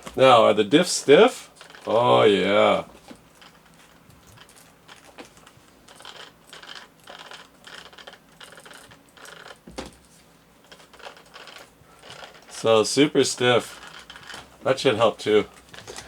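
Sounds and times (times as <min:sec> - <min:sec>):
toy car drivetrain clicking: 0:00.9 - 0:10.0, 0:10.6 - 0:16.0.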